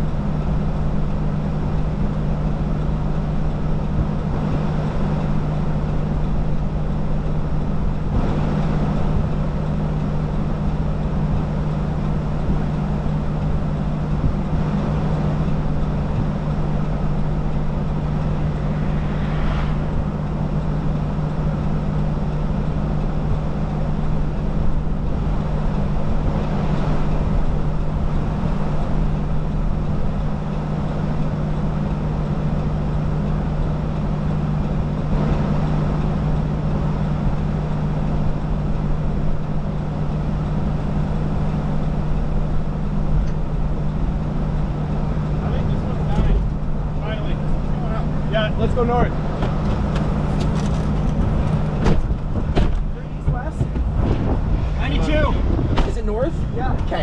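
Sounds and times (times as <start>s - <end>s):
steady rumbling with low hum: 0.0s - 57.0s.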